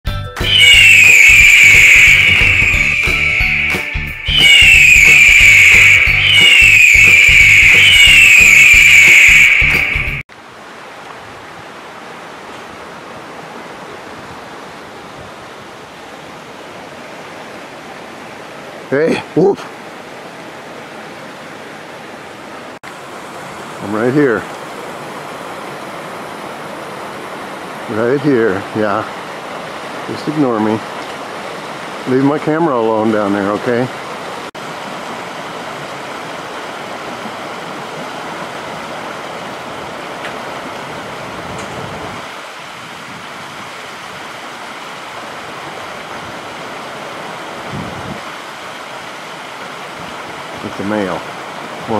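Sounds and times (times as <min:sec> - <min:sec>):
flowing water rushing: 0:00.4 - 0:51.9.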